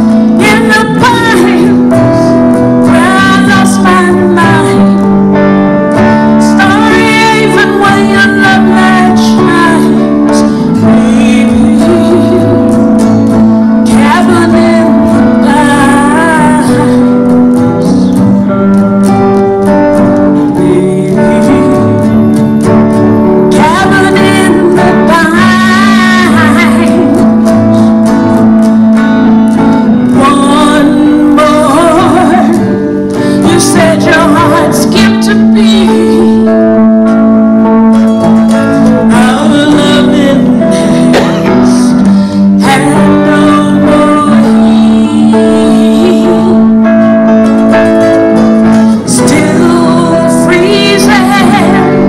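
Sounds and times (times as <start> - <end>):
acoustic guitars: 0.0 - 52.0
woman singing: 0.0 - 52.0.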